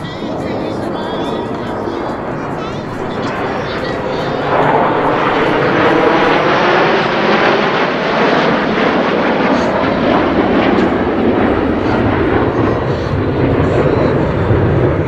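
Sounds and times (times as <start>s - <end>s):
jet fly-by roar: 0.0s - 15.0s.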